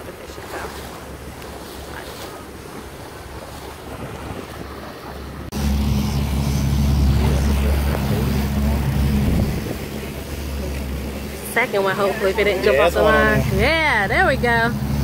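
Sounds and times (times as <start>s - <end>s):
outboard motor humming: 0.0s - 15.0s
wind and water rushing past boat: 0.0s - 15.0s.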